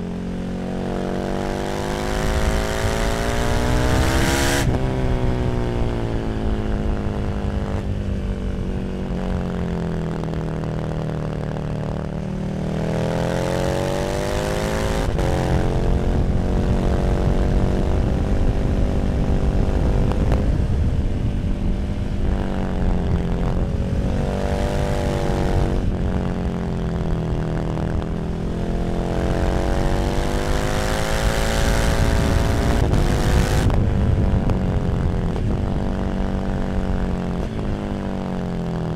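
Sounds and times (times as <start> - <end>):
motorcycle engine at road speed: 0.0 - 38.9.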